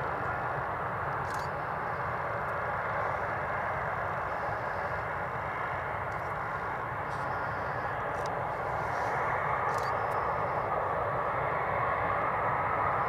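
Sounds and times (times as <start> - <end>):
jet engines at taxi power: 0.0 - 13.0.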